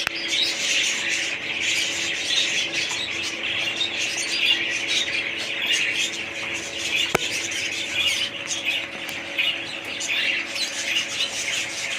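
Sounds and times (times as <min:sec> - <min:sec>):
parrots chattering and squawking: 0:00.0 - 0:11.9.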